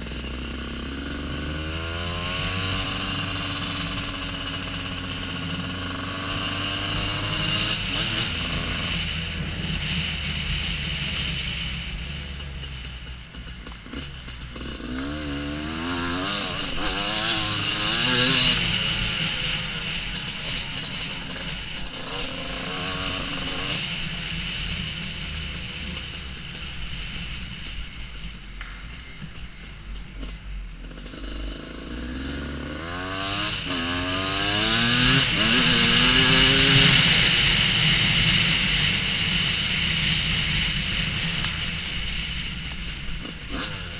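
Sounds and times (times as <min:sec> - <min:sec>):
two-stroke dirt bike engine revving: 0:00.0 - 0:43.9.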